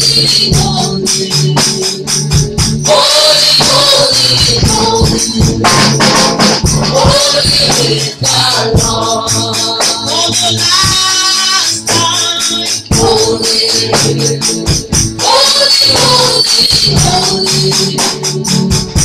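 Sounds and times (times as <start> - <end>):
women singing together: 0.0 - 2.1, 2.9 - 6.0, 6.8 - 18.2
band backing: 0.0 - 19.0
shaken percussion beat: 0.0 - 19.0.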